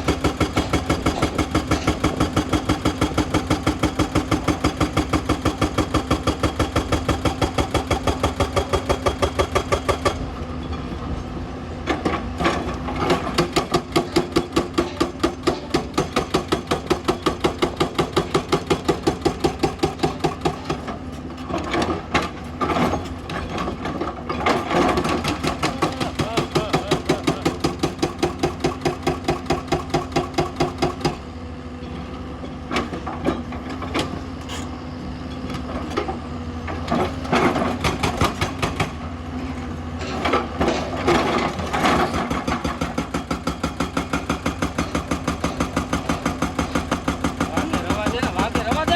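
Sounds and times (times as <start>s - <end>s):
excavator engine running: 0.0s - 48.9s.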